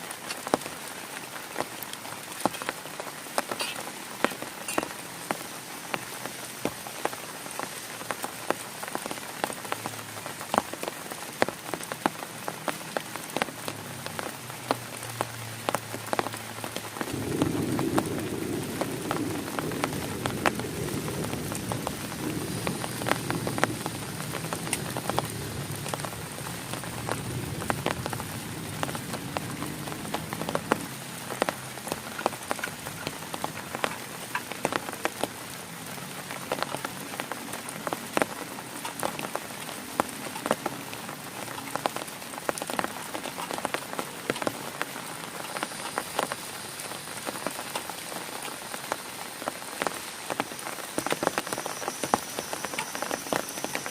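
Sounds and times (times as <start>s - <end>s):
heavy rain on a tent: 0.0s - 53.9s.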